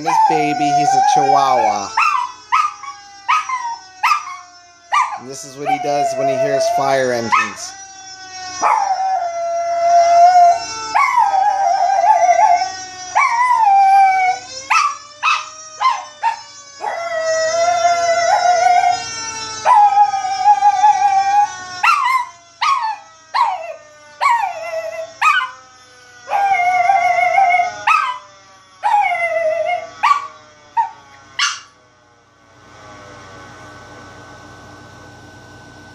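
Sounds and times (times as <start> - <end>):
dog howling and yipping: 0.0 - 7.8, 8.6 - 31.7
fire engine siren: 0.0 - 35.9.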